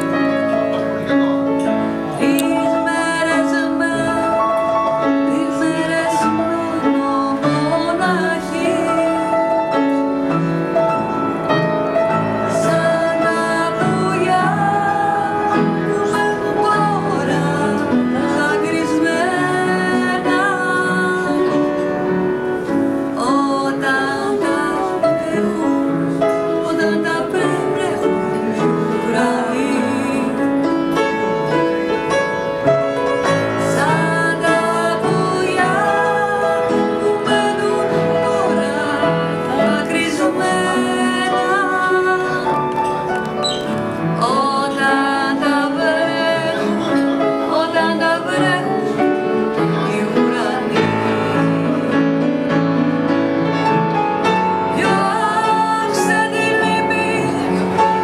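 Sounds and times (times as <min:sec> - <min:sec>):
piano chords: 0:00.0 - 0:58.0
woman singing: 0:02.1 - 0:10.4, 0:11.6 - 0:31.4, 0:33.2 - 0:52.0, 0:54.2 - 0:58.0.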